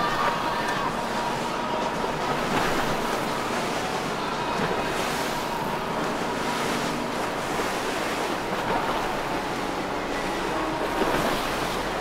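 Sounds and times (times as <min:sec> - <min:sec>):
waves washing: 0:00.0 - 0:12.0.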